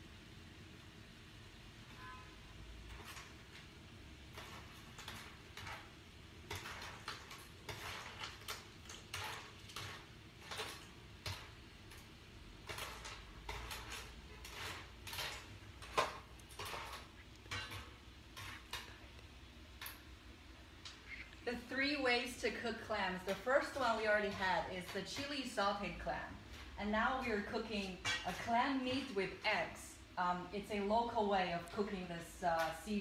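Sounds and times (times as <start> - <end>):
boiling water: 0.0 - 30.2
ladle scraping clams in a pan: 2.0 - 20.1, 20.9 - 29.6.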